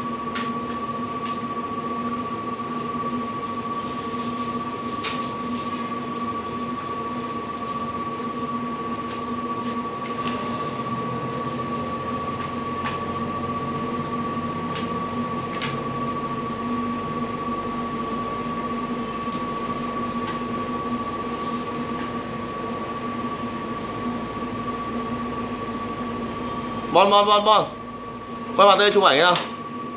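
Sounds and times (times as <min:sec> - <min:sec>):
machine hum with high whine: 0:00.0 - 0:29.9.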